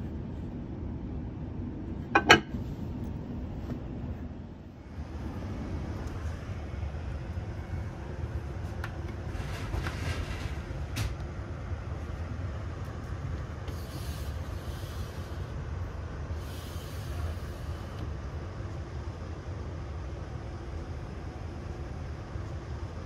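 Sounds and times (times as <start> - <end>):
train interior low rumble: 0.0 - 23.0.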